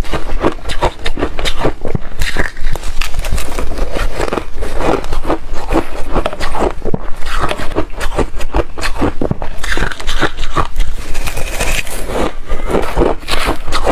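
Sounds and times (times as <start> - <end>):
ice being chewed: 0.0 - 13.9.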